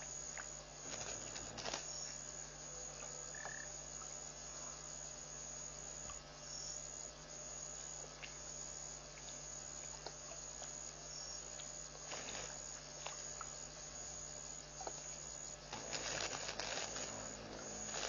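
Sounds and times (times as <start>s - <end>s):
crickets calling: 0.0s - 18.0s
faint hiss: 0.0s - 18.0s
steady low hum: 0.0s - 18.0s.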